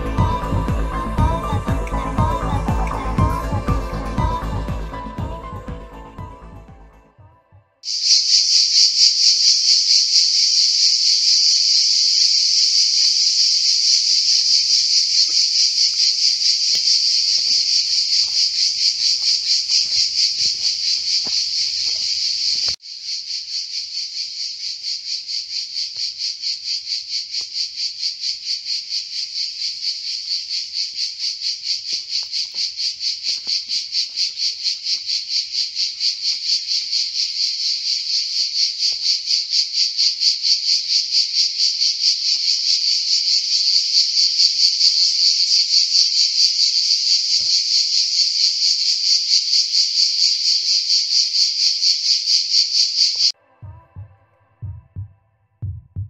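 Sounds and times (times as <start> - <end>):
insects chirring: 7.8 - 53.4.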